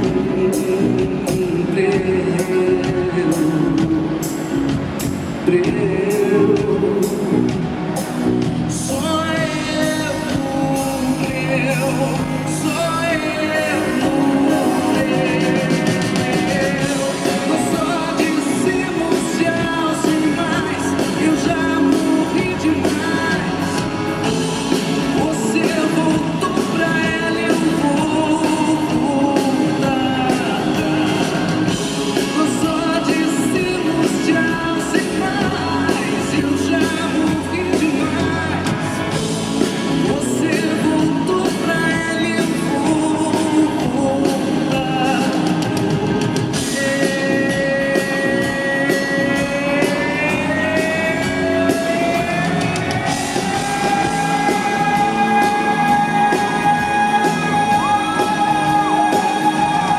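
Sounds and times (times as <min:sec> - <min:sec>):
live band playing pop-rock: 0:00.0 - 0:59.9
person singing: 0:00.0 - 0:59.9.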